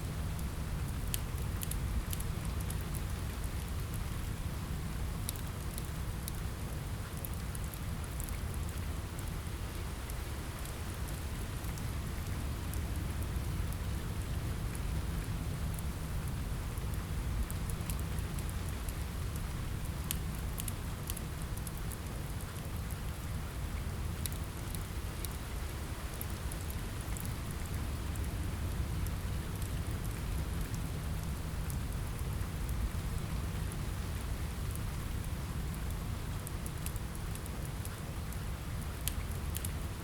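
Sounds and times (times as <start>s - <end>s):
crackling wood fire: 0.0s - 40.0s
rain on a window: 0.0s - 40.0s.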